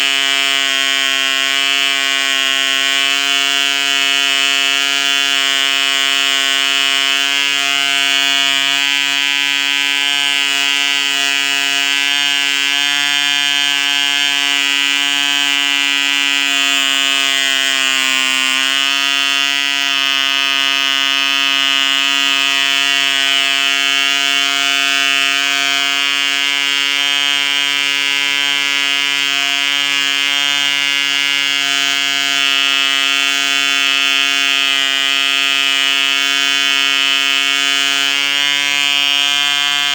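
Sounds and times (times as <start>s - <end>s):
model engine buzzing whine: 0.0s - 39.9s.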